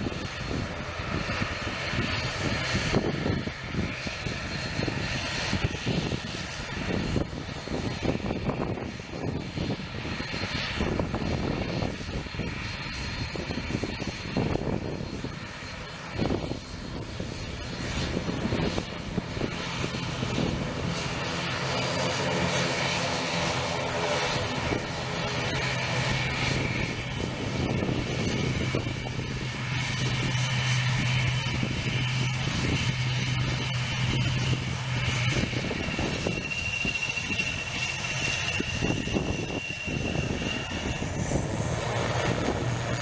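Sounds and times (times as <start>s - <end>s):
layered propeller hum: 0.0s - 43.0s
turboprop airliner taxiing: 0.0s - 43.0s.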